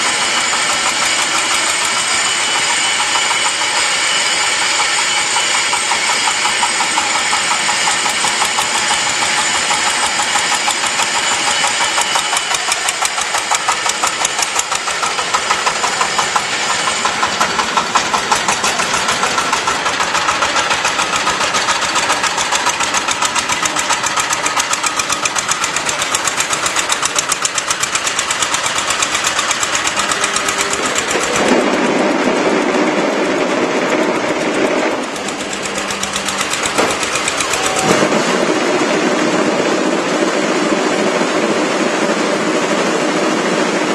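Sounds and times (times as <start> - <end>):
machine rattling: 0.0 - 43.9.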